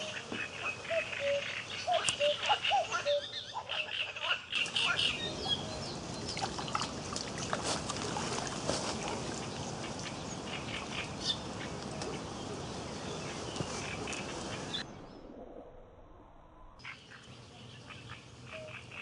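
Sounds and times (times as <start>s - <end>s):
steady background hiss: 0.0s - 15.2s, 16.8s - 19.0s
birds chirping: 0.0s - 15.3s, 16.8s - 19.0s.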